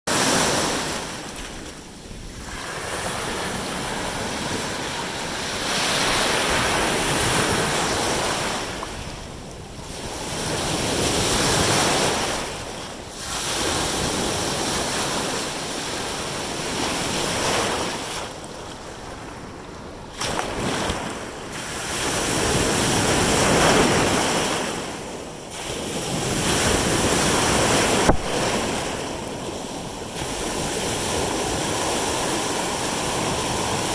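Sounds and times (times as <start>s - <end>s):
ocean surf washing up beach: 0.1s - 33.9s
wind buffeting microphone: 0.1s - 33.9s.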